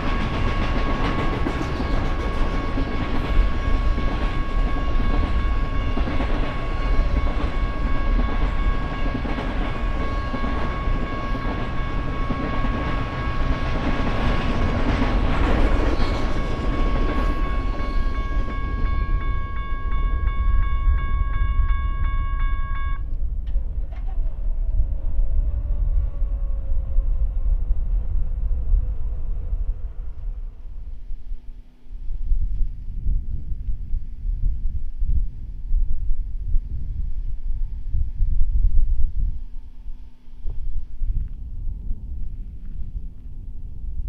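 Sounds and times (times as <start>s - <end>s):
freight train rumbling: 0.0s - 44.0s.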